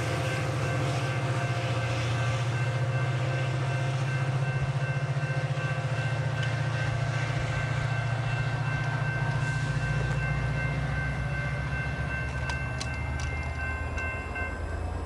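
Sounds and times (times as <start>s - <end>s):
diesel locomotive engine idling: 0.0s - 15.0s.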